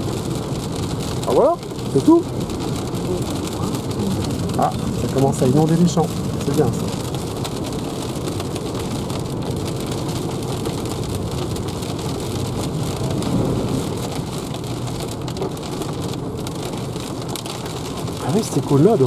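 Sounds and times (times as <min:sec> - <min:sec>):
heavy rain drumming on car: 0:00.0 - 0:19.0
tyres hissing on wet road: 0:00.0 - 0:19.0.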